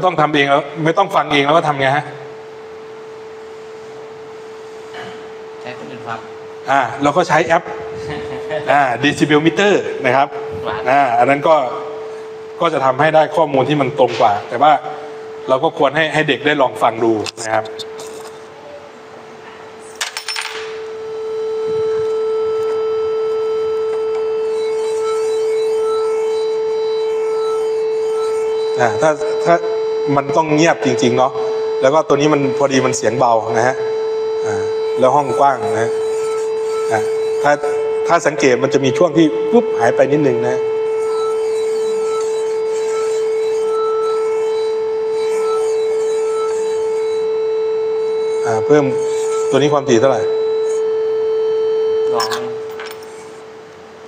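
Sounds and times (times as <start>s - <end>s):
steady pure test tone: 0.0s - 54.0s.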